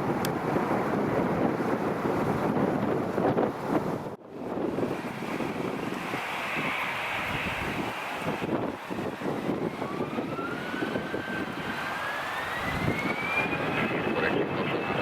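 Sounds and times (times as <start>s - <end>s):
jet engine whine: 0.0s - 15.0s
jet engines rumbling: 0.0s - 15.0s.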